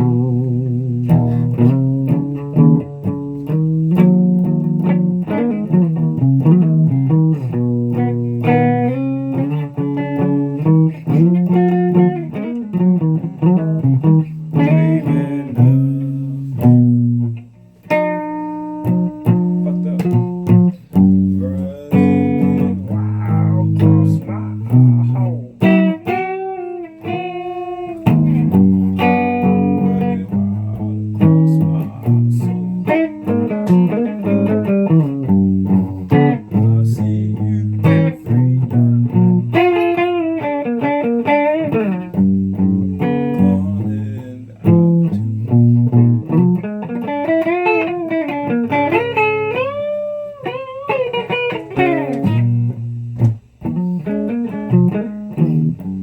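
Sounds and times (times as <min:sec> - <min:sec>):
plucked guitar music: 0:00.0 - 0:56.0.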